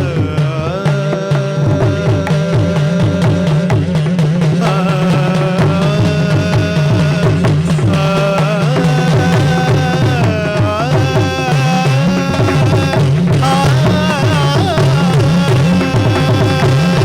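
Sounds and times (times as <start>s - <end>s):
low percussion pattern: 0.0s - 17.0s.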